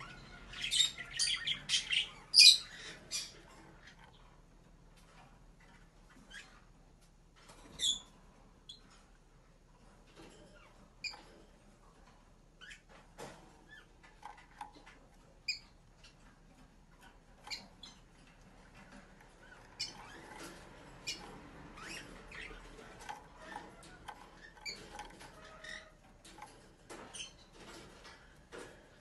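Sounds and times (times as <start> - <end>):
canary chirps and ticks: 0.0 - 29.0.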